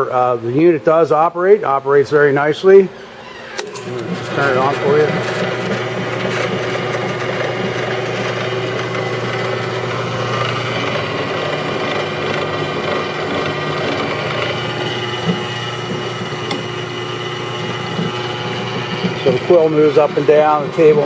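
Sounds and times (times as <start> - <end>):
drill press motor humming: 3.0 - 21.0.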